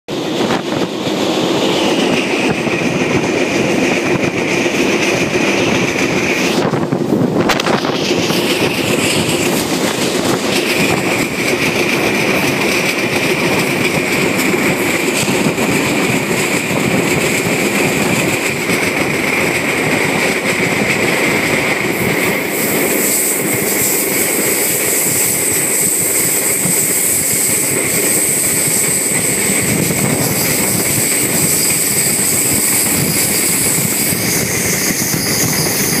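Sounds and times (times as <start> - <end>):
train wheels rumbling on rails: 0.1 - 36.0.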